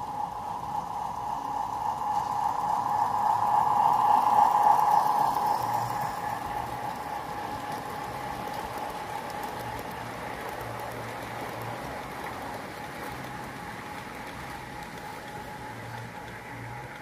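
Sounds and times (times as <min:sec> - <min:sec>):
faint steady whine: 0:00.0 - 0:17.0
model train wheels on rail: 0:00.0 - 0:17.0.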